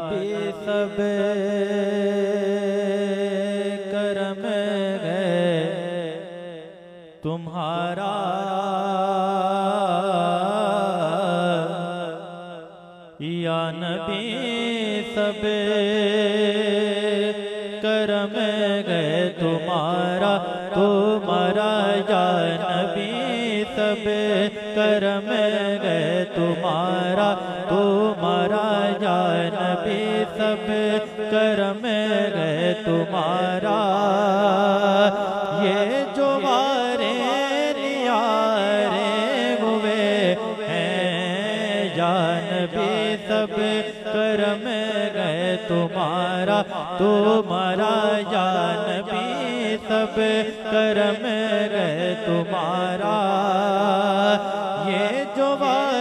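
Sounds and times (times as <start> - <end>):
man singing into a microphone: 0.0 - 56.0.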